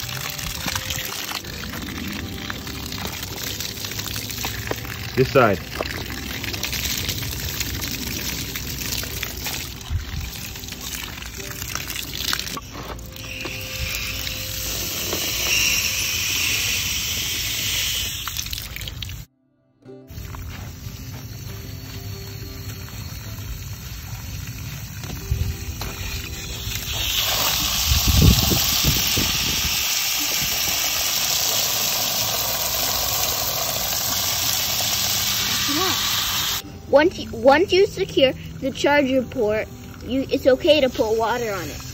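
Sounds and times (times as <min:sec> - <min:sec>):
water splashing and dripping: 0:00.0 - 0:16.6, 0:17.2 - 0:19.3, 0:22.6 - 0:41.9.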